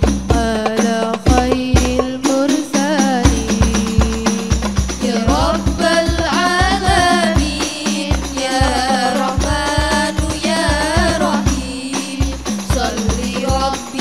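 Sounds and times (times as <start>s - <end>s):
deep bass drum: 0.0s - 2.1s, 3.1s - 13.8s
frame drums: 0.0s - 14.0s
women singing: 0.0s - 14.0s.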